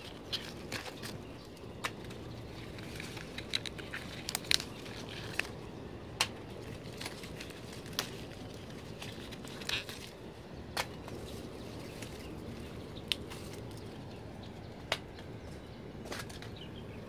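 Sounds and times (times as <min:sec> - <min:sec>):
bean pods snapping: 0:00.0 - 0:13.9, 0:14.8 - 0:15.2
low background rumble: 0:00.0 - 0:17.0.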